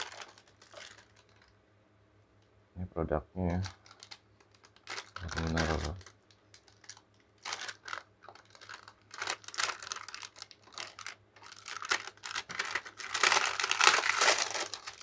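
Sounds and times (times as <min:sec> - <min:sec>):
packaging rustling: 0:00.0 - 0:01.5, 0:03.6 - 0:15.0.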